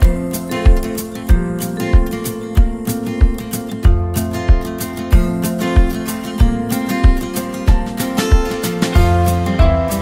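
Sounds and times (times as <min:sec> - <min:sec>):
strong bass beat: 0:00.0 - 0:09.8
strummed guitar: 0:00.0 - 0:10.0.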